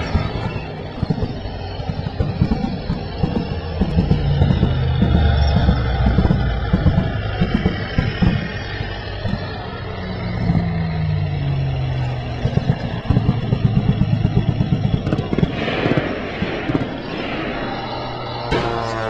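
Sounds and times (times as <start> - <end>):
tank engine chugging: 0.0 - 19.0.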